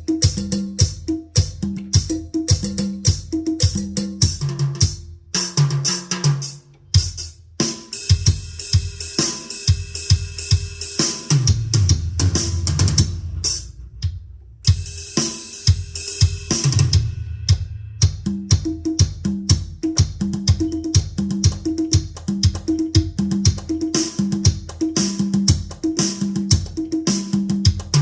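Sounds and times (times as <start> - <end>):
keyboard drum kit hits: 0.0 - 28.0.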